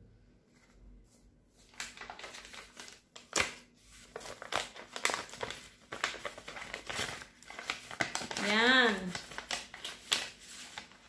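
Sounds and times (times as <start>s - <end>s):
paper crinkling and rustling: 0.5s - 11.0s.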